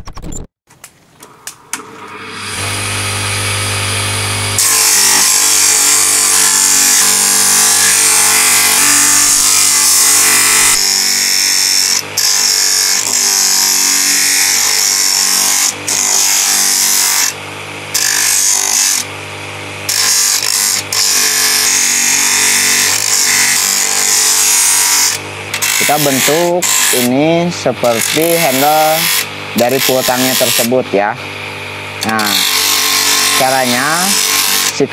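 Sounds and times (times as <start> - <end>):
grinder motor hum: 1.2 - 34.9
wood grinding on bench grinder: 1.5 - 34.9.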